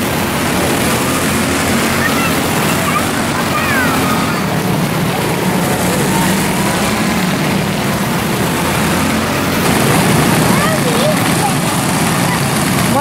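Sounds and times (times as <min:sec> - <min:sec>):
small race car engines buzzing: 0:00.0 - 0:13.0.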